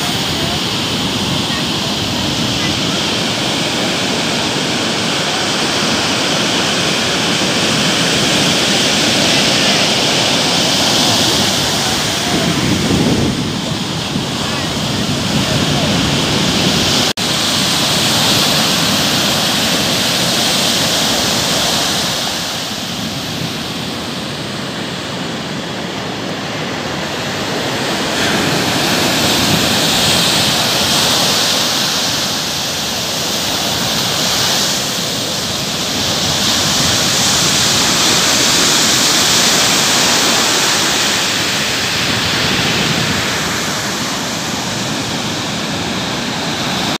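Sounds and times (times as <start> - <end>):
ocean surf breaking on beach: 0.0 - 47.0.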